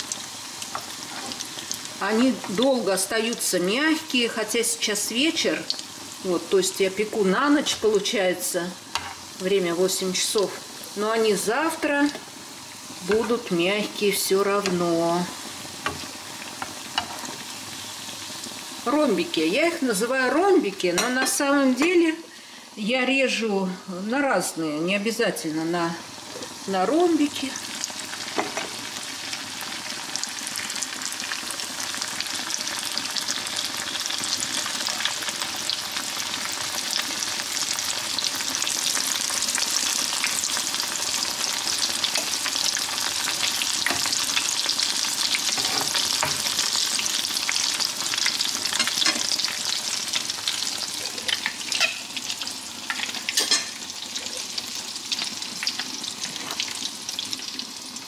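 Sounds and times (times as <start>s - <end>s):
dough frying in hot oil: 0.0s - 20.6s, 26.2s - 58.0s.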